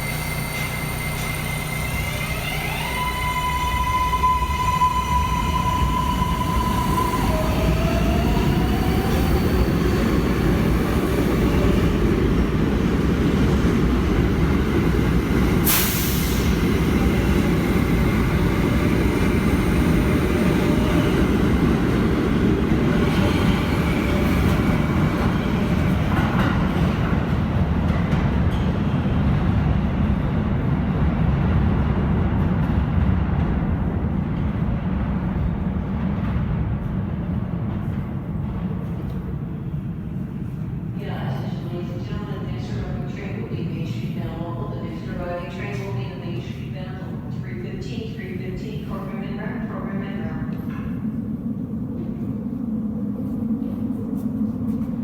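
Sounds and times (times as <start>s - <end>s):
subway train wheels rumbling on rail: 0.0s - 55.0s.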